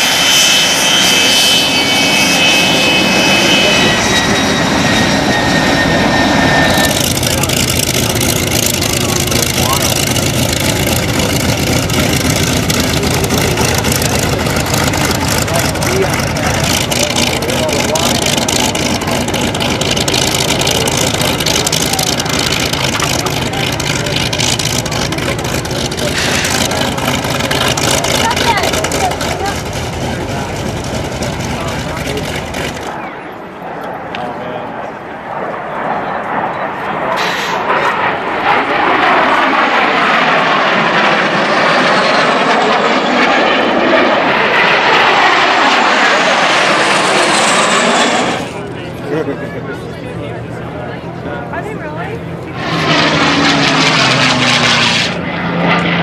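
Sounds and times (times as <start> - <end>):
jet fighters flying overhead: 0.0 - 56.0.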